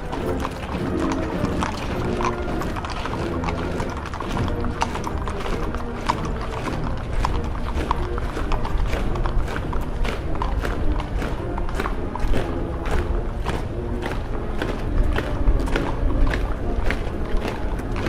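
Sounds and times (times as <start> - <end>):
marching band music: 0.0 - 18.0
marching steps on pavement: 0.0 - 18.0.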